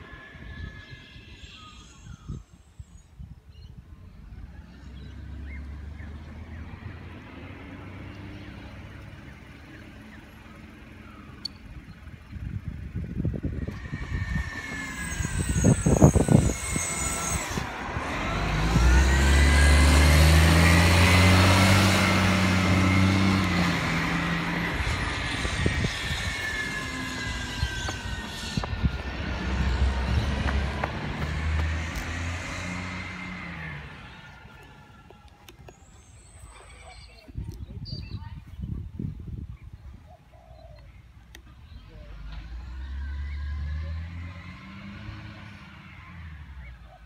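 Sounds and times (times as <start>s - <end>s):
garbage truck diesel engine accelerating: 4.0s - 36.5s, 41.6s - 47.0s.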